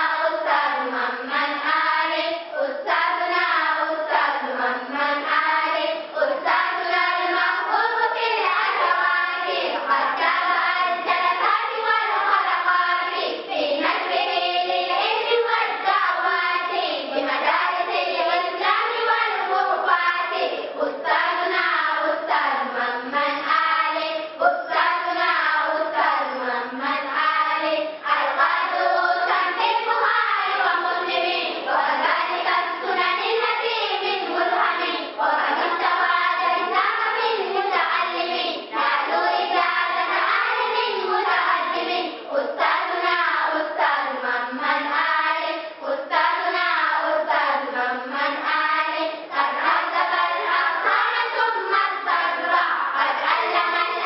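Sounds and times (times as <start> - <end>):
girls choir singing: 0.0 - 54.0.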